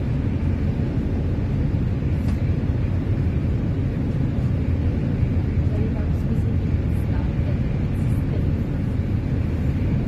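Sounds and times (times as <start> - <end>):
ferry engine drone: 0.0 - 10.0.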